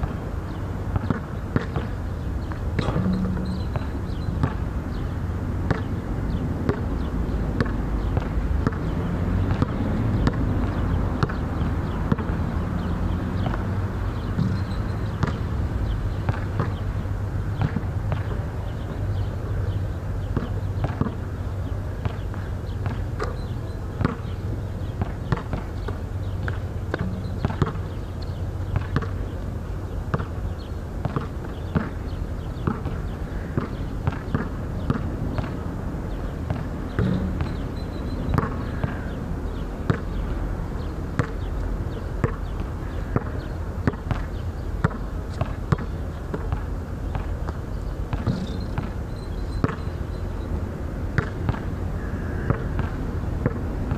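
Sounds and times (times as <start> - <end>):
basketball bouncing on court: 0.0 - 4.8, 5.6 - 16.9, 17.5 - 19.2, 20.2 - 29.4, 30.1 - 30.4, 31.0 - 39.2, 39.8 - 41.5, 42.2 - 50.2, 51.1 - 51.7, 52.4 - 53.9
steady low hum: 0.0 - 53.9.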